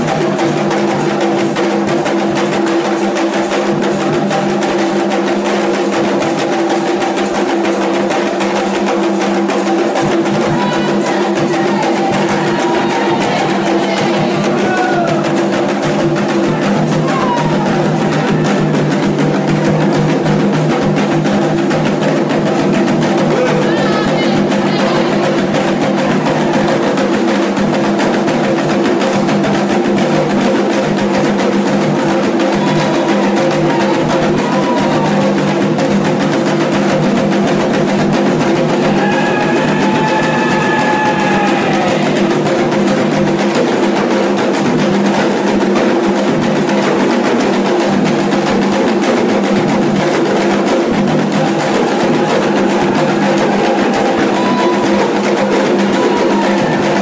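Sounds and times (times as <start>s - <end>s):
hand drums playing: 0.0s - 57.0s.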